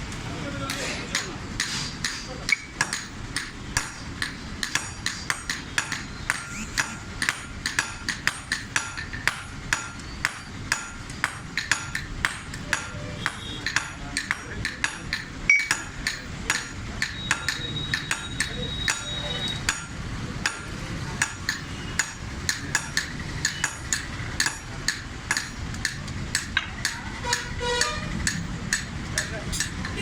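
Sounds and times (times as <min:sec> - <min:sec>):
hammer striking iron: 0:00.6 - 0:30.0.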